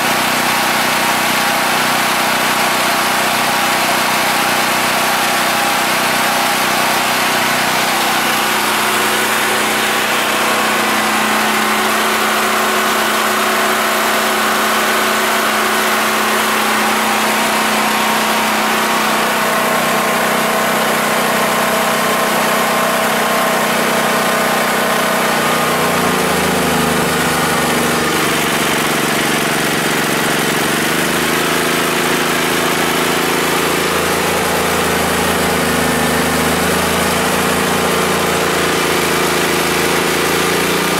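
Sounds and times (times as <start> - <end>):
generator engine running: 0.0 - 40.9.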